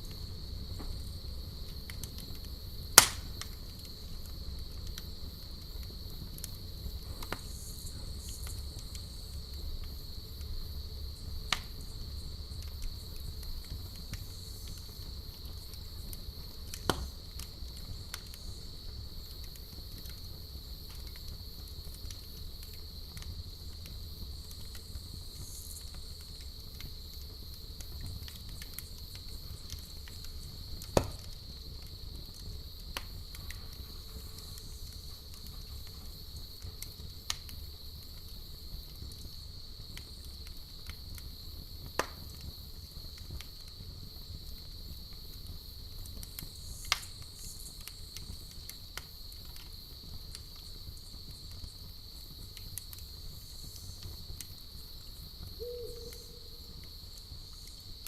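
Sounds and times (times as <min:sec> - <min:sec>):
campfire crackling: 0:00.0 - 0:58.0
cricket trill: 0:00.0 - 0:58.0
sharp fire pops: 0:00.1 - 0:58.0.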